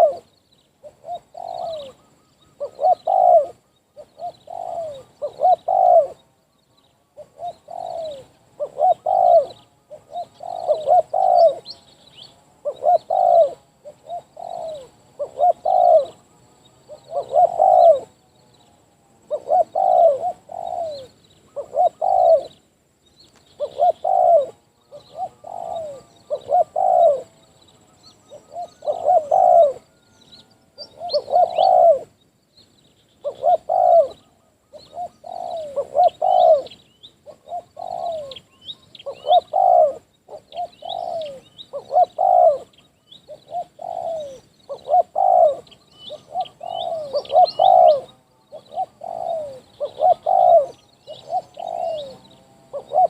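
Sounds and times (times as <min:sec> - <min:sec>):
dove cooing: 0:00.0 - 0:22.7, 0:23.3 - 0:32.2, 0:33.2 - 0:53.0.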